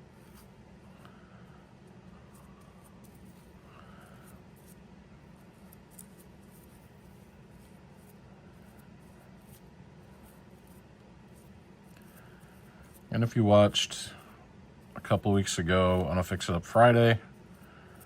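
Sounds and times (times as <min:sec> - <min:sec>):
low steady hum: 0:00.0 - 0:18.0
small brush scratching on steel: 0:02.2 - 0:18.0.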